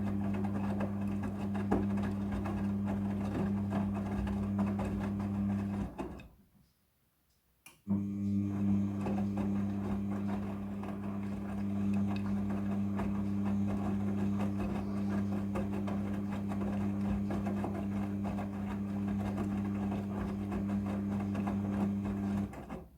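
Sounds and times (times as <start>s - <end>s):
washing machine humming: 0.0s - 6.2s, 7.9s - 22.9s.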